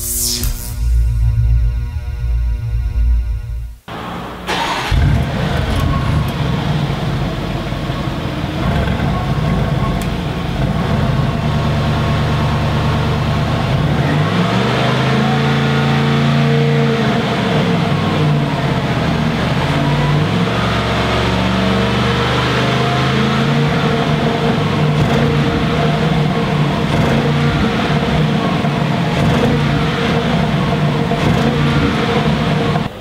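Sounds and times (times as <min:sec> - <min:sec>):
car engine revving and idling: 0:03.9 - 0:33.0.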